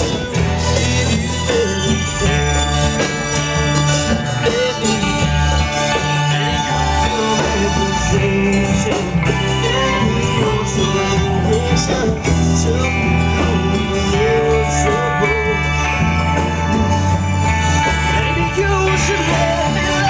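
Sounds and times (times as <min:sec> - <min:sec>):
bass line: 0:00.0 - 0:20.0
electric guitar melody: 0:00.0 - 0:20.0
live country band playing: 0:00.0 - 0:20.0.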